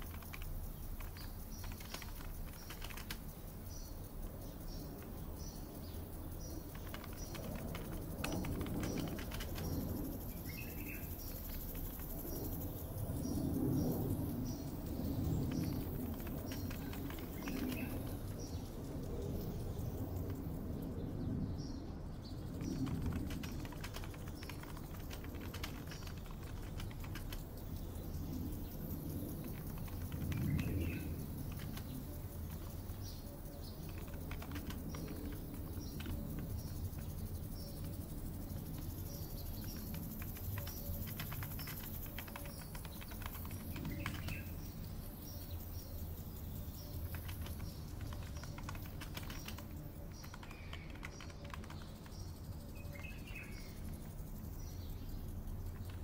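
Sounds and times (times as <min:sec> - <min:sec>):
computer keyboard typing: 0:00.0 - 0:20.8, 0:22.3 - 0:54.0, 0:55.6 - 0:56.0
bird chirps: 0:00.0 - 0:56.0.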